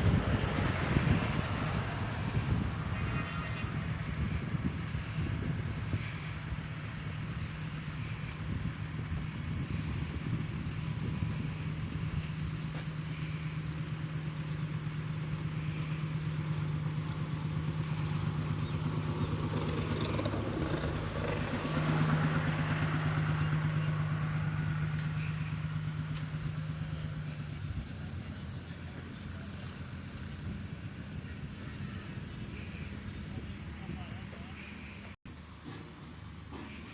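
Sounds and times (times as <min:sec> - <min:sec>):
construction machinery engine running: 0:00.0 - 0:36.9.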